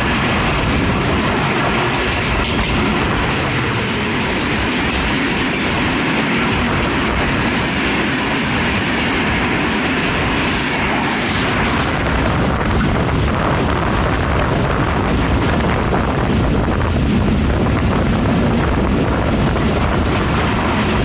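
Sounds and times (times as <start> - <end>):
train wheels rushing on track: 0.0 - 21.0.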